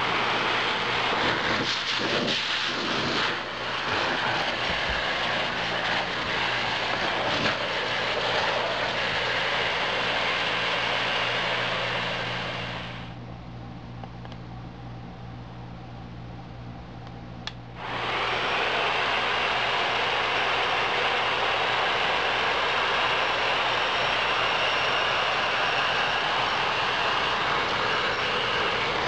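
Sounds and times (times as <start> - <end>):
vacuum cleaner running: 0.0 - 13.2, 17.7 - 29.0.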